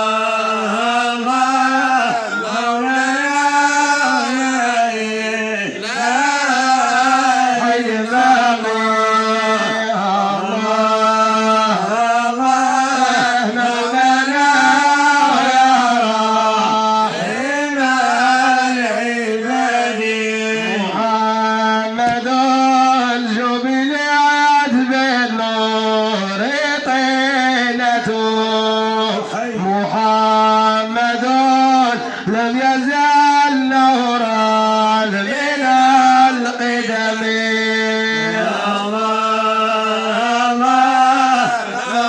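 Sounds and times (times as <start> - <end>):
man singing into a microphone: 0.0 - 42.0.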